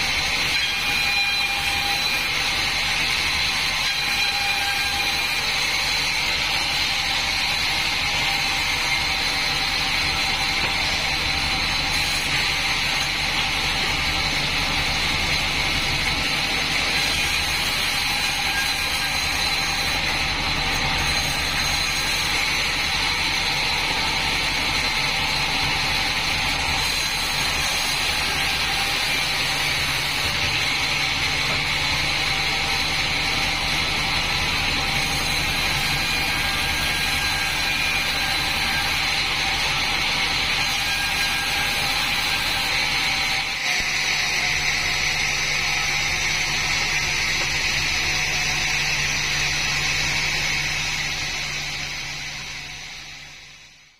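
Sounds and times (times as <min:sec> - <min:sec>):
band saw drone with high whine: 0:00.0 - 0:53.9.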